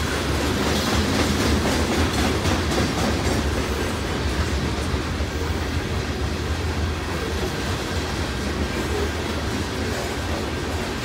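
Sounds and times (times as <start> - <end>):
freight train rumbling past: 0.0 - 11.0
steel wheels on rails: 0.0 - 11.0.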